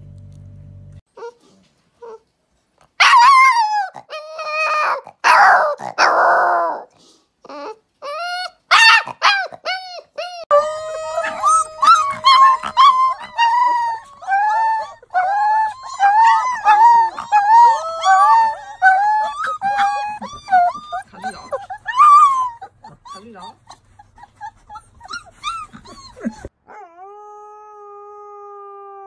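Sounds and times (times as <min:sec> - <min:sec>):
puppy howling high-pitched: 0:03.0 - 0:06.9, 0:07.5 - 0:23.6, 0:24.7 - 0:29.0.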